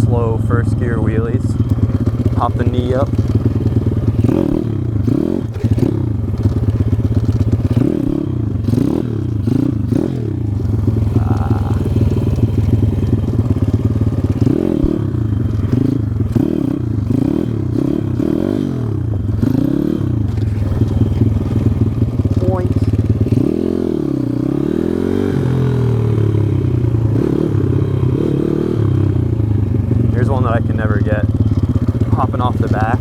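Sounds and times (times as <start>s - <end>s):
pit bike engine revving: 0.0s - 33.0s.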